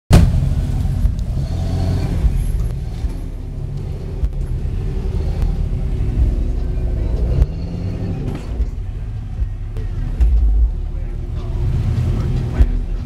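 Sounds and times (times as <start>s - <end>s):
vehicle engine rumbling: 0.1s - 13.0s.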